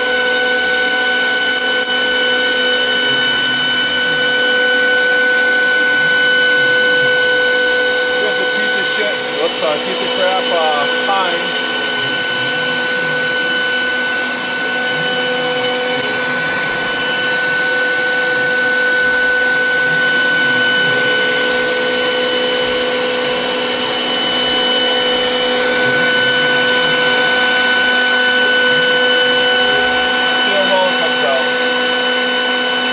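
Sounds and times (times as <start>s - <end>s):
cnc router whine: 0.0s - 32.9s
vacuum table rush: 5.4s - 32.9s.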